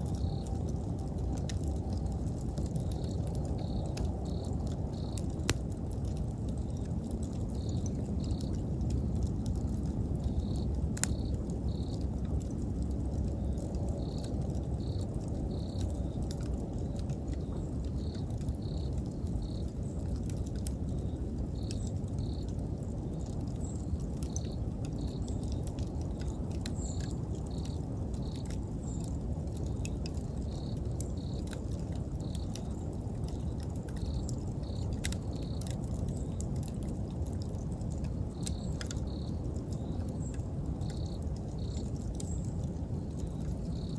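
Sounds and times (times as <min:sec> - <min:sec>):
cricket chirping: 0:00.0 - 0:09.0, 0:09.6 - 0:36.8, 0:37.9 - 0:43.9
campfire crackling and popping: 0:00.0 - 0:43.9.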